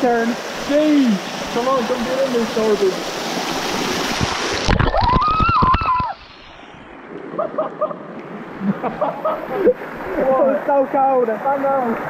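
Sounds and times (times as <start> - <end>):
waterfall pouring and spattering: 0.0 - 7.4, 8.1 - 12.0.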